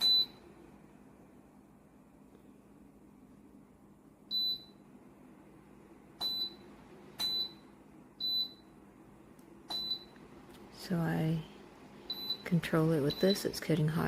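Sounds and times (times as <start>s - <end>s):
faint heater hum: 0.0s - 14.0s.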